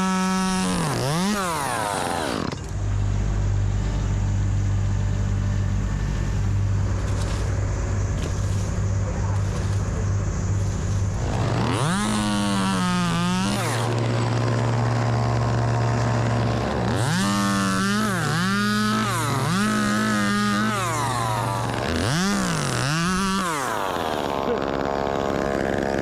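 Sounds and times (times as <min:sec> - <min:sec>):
chainsaw revving: 0:00.0 - 0:03.3, 0:06.0 - 0:26.0
low engine drone: 0:02.5 - 0:26.0.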